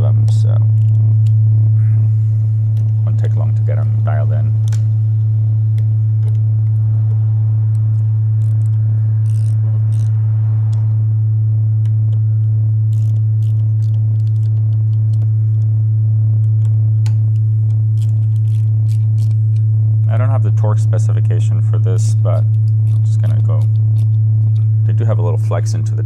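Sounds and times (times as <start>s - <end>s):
low sine test tone: 0.0s - 26.0s.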